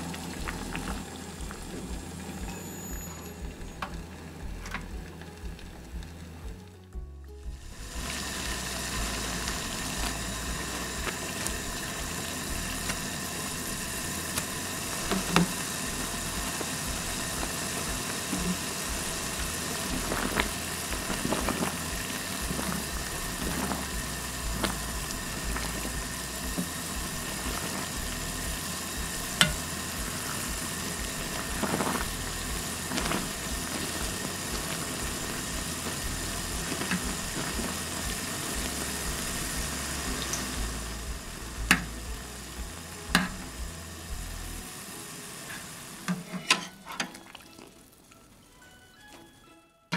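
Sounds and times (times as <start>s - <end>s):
water boiling hard: 0.0s - 48.6s.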